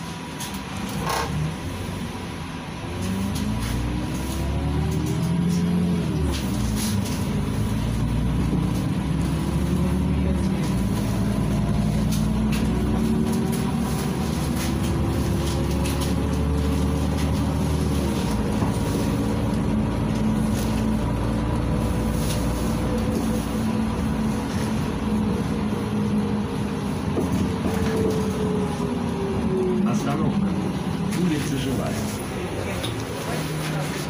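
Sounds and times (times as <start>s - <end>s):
bus engine droning: 0.0s - 34.0s
road and tyre noise: 0.0s - 34.0s.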